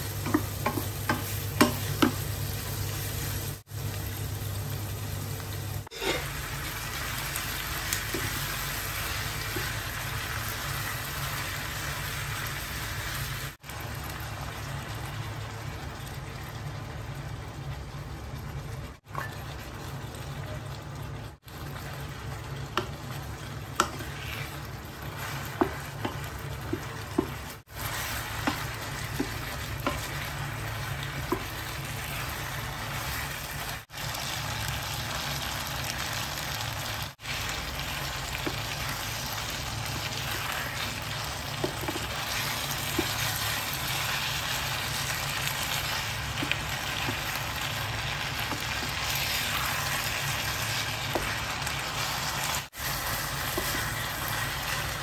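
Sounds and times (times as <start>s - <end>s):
shrimp sizzling in a frying pan: 0.0s - 17.8s, 21.4s - 55.0s.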